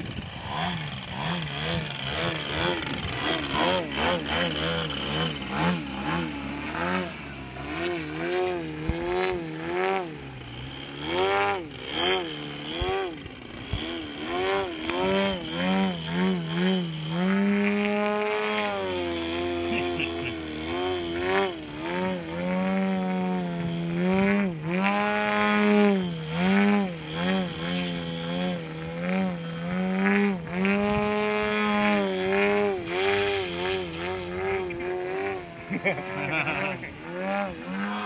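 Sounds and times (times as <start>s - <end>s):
model airplane engine revving: 0.0s - 38.0s.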